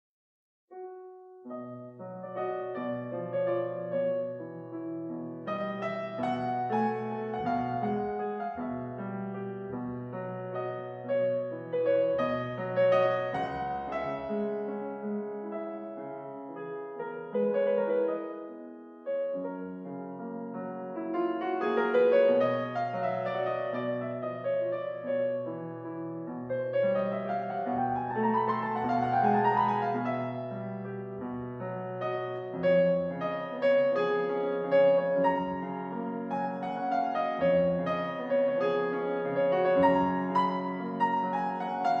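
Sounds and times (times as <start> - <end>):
gentle piano music: 0.7 - 42.0.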